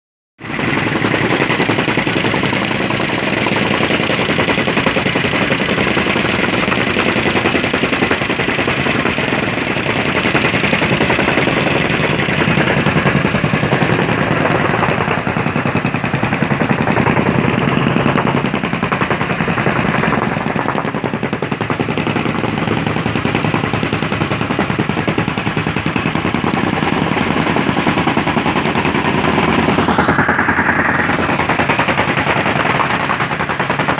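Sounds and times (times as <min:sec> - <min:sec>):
tamping rammers rattling on gravel: 0:00.5 - 0:33.9.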